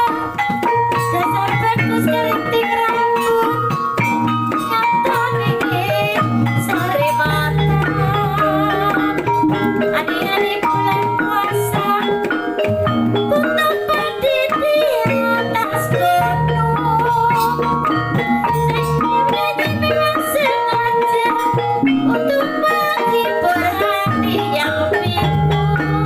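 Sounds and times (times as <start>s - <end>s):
gamelan music: 0.0s - 26.0s.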